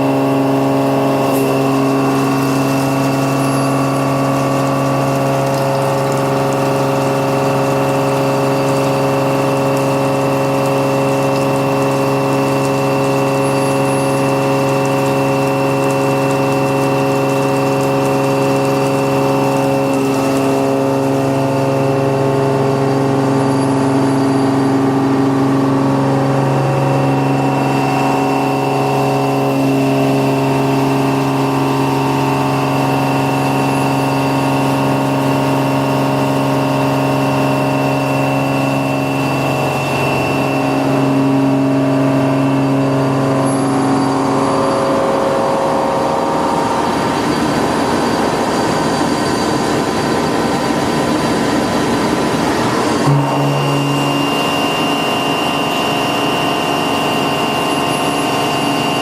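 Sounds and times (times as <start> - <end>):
milling machine hum: 0.0 - 59.0
multi-tone whine: 0.0 - 59.0.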